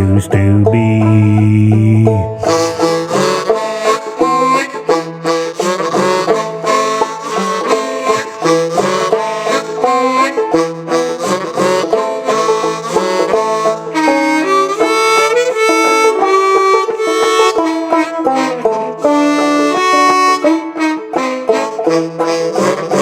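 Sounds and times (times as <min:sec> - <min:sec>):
long held notes: 0:00.0 - 0:23.0
picked string melody: 0:00.0 - 0:23.0.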